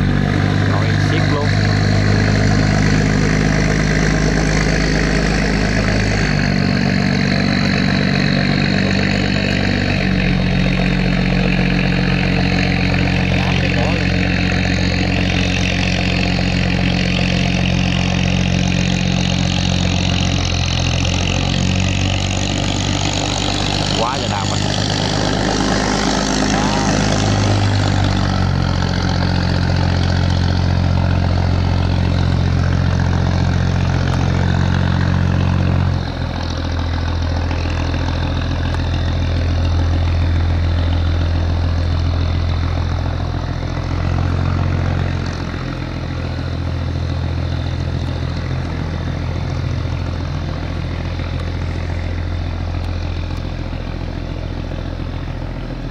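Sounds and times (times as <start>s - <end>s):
diesel engine drone: 0.0s - 55.9s.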